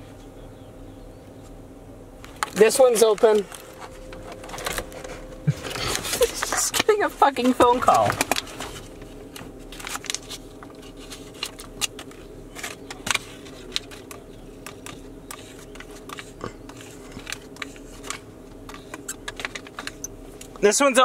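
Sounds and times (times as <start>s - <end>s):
car cabin hum: 0.0s - 21.0s.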